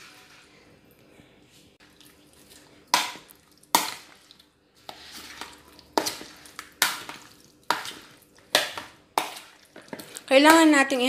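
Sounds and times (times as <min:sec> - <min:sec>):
metal spoon mixing in a bowl: 0:01.9 - 0:11.0.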